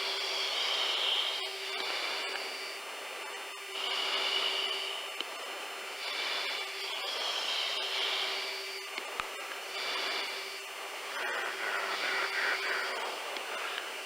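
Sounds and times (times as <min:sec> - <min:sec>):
jet engine and airflow hiss: 0:00.0 - 0:14.0.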